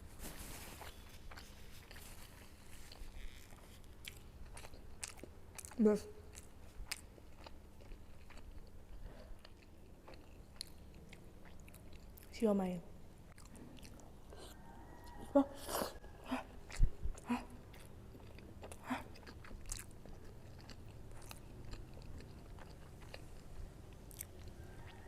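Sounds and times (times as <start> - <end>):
person chewing food: 0.8 - 12.3, 13.2 - 25.0.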